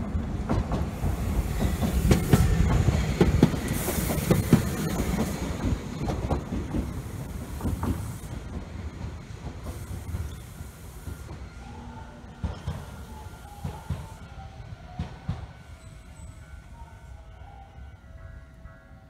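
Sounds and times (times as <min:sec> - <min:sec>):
tram wheels clacking over rail joints: 0:00.0 - 0:14.2, 0:14.8 - 0:16.0
low rumble of tram: 0:00.0 - 0:19.0.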